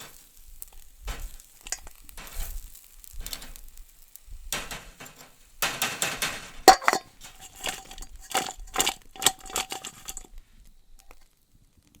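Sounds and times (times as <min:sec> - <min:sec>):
metal utensil scraping on grill: 0:00.0 - 0:10.4.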